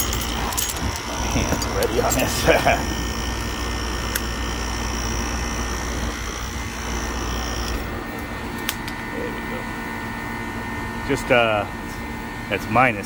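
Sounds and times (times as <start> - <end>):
compressor humming and whining: 0.0 - 13.0.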